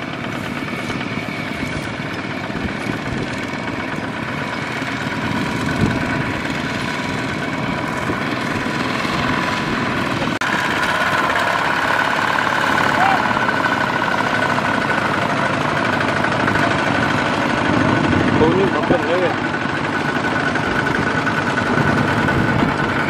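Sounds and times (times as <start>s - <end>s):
diesel engines chugging: 0.0s - 23.0s.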